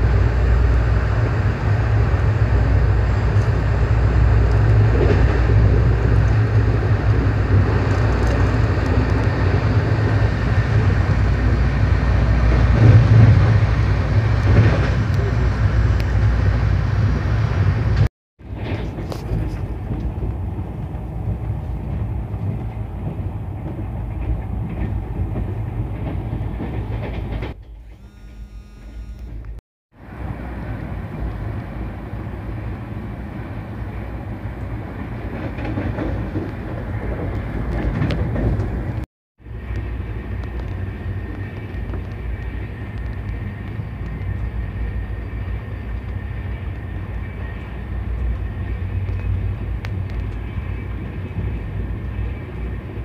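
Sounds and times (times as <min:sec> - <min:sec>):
train wheels rumbling on rails: 0:00.0 - 0:28.0, 0:29.4 - 0:53.0.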